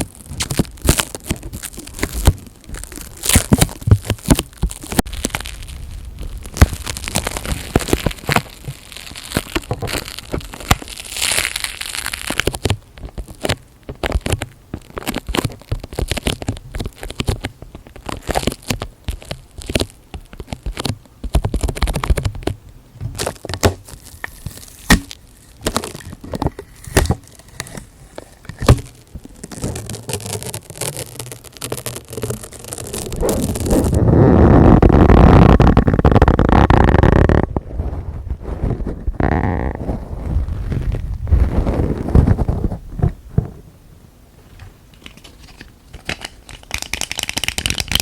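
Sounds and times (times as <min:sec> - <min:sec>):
sharp clicks and pops: 0:00.0 - 0:43.2, 0:44.9 - 0:48.0
crackling and crinkling handling: 0:00.0 - 0:43.7, 0:44.4 - 0:48.0.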